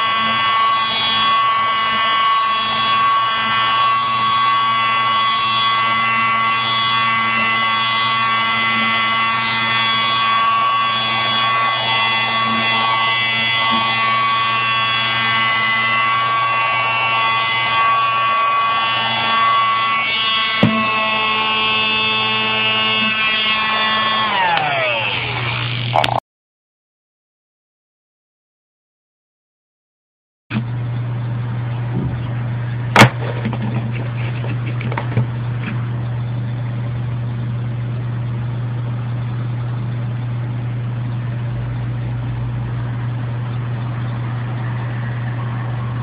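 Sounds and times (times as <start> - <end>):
handheld vacuum motor whine: 0.0 - 26.2, 31.8 - 46.0.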